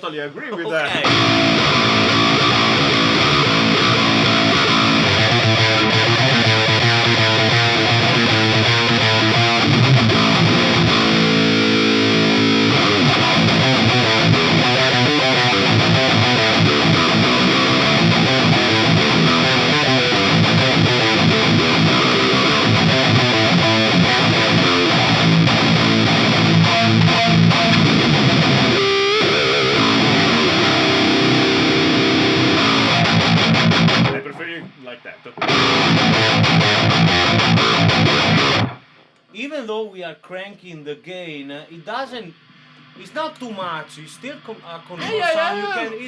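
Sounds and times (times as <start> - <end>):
distorted electric guitar riffing: 0.8 - 38.9.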